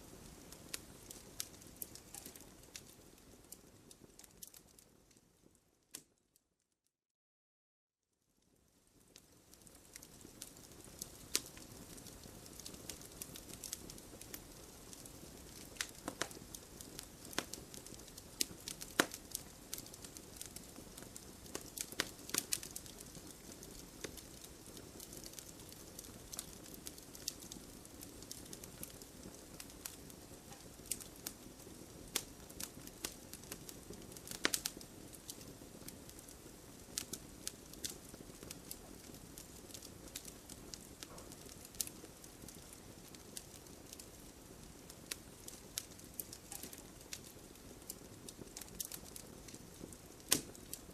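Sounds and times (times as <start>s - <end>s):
campfire crackling: 0.0s - 6.1s, 8.5s - 50.9s.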